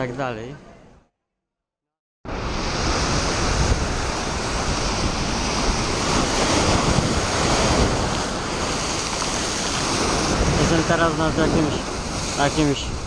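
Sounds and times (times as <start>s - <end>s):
ocean surf over rocks: 2.3s - 13.0s
wind buffeting microphone: 2.3s - 13.0s.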